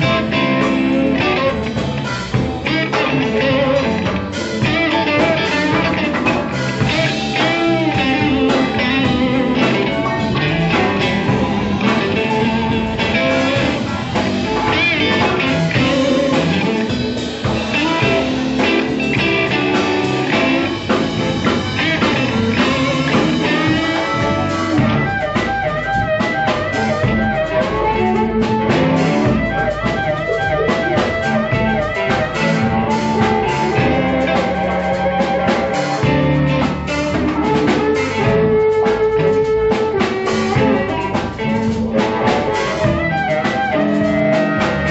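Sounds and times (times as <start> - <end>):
blues band playing: 0.0 - 44.9
electric guitar bending notes: 0.0 - 44.9.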